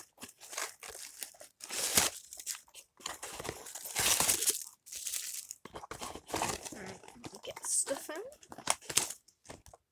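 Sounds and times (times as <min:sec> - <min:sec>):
packaging crinkling and tearing: 0:00.0 - 0:09.9.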